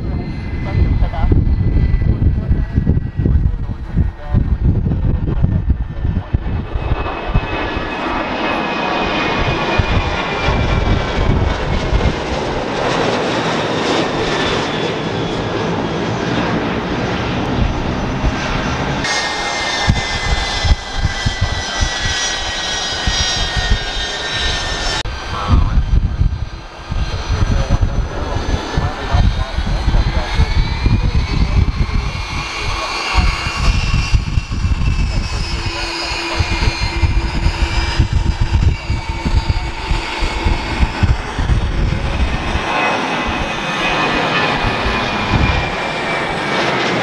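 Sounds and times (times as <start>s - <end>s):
jet roar with high whine: 0.0s - 47.0s.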